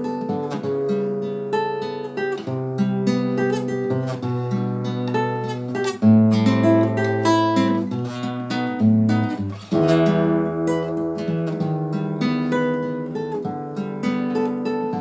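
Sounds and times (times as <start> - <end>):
plucked guitar melody: 0.0 - 15.0
strummed guitar chords: 0.0 - 15.0.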